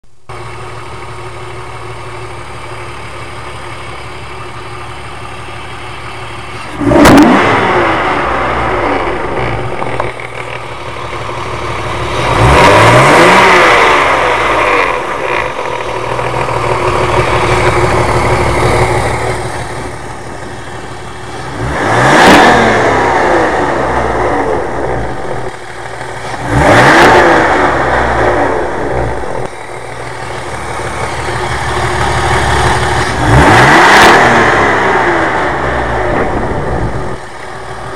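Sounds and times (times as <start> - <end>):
car engine idling and revving: 0.1 - 37.9
engine rattle: 0.3 - 37.9.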